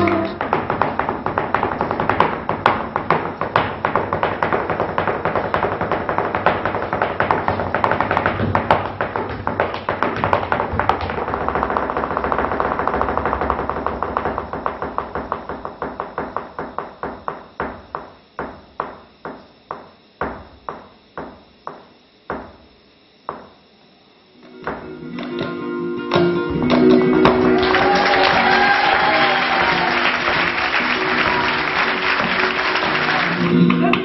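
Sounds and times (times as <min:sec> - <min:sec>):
flamenco footwork on stage floor: 0:00.0 - 0:22.6, 0:24.6 - 0:34.0.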